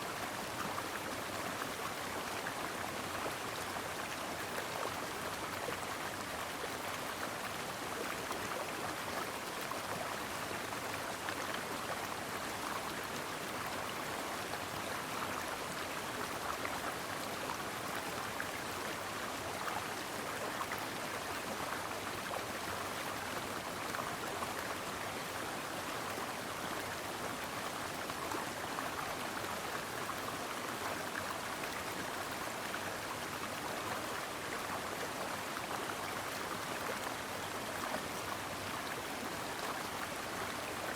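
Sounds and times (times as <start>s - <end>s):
stream water babbling: 0.0s - 40.9s.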